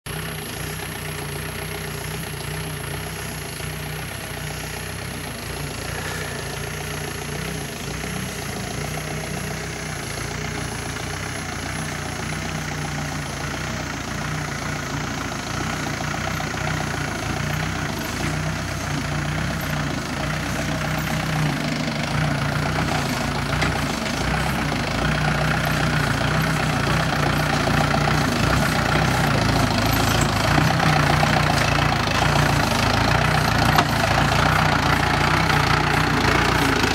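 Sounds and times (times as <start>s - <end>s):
diesel engine running at low revs: 0.0s - 36.9s.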